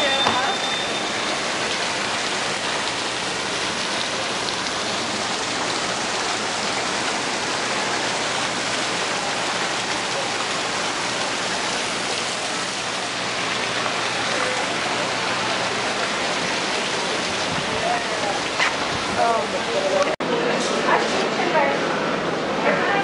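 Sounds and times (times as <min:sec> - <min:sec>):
waterfall splashing into pond: 0:00.0 - 0:20.2.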